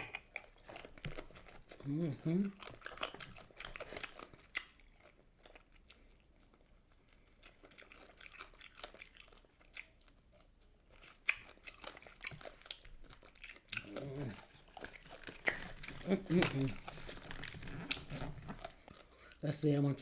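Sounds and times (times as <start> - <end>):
person chewing crunchy food: 0.0 - 19.4.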